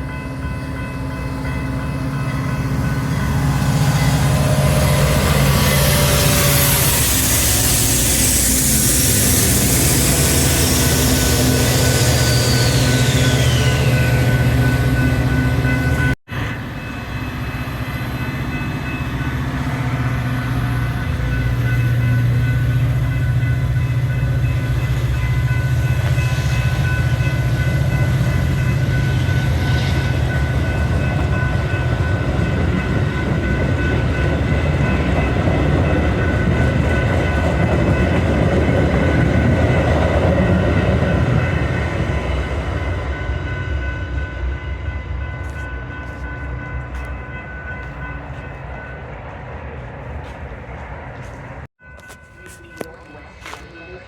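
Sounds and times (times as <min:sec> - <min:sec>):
train engine hum: 0:00.0 - 0:54.0
wheel and rail noise: 0:00.0 - 0:54.0.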